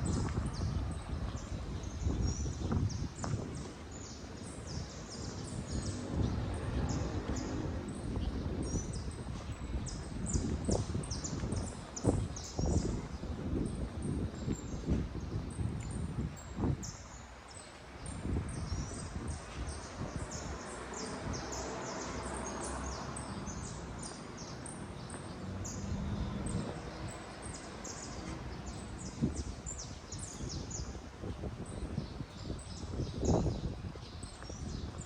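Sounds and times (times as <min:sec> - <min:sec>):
birds chirping: 0:00.0 - 0:35.0
outdoor background noise: 0:00.0 - 0:35.0.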